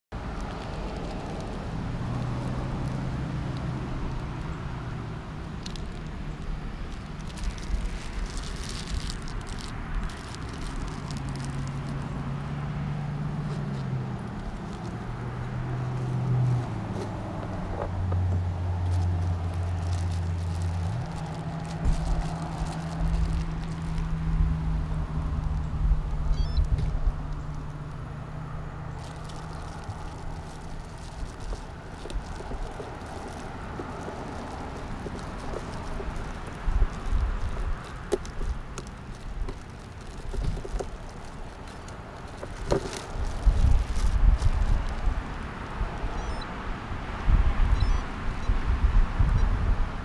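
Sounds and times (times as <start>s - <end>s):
low rumbles: 0.1s - 46.4s
outdoor background noise: 0.1s - 50.0s
plastic bag crinkling: 0.2s - 12.4s, 13.2s - 45.4s.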